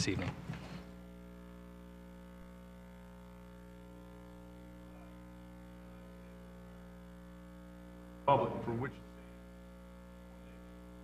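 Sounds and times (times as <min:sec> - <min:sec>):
faint mains hum: 0:00.0 - 0:11.0.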